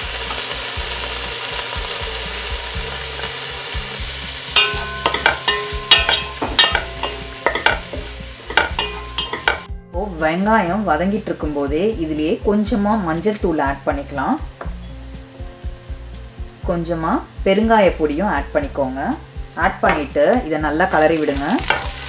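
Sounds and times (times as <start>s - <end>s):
onions sizzling in a pan: 0.0s - 22.0s.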